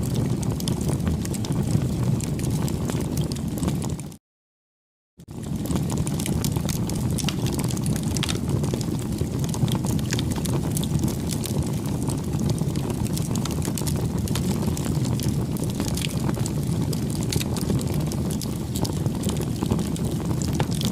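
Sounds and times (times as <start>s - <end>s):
burning wood crackling and popping: 0.0s - 4.2s, 5.2s - 20.9s
campfire flames rumbling: 0.0s - 4.2s, 5.2s - 20.9s.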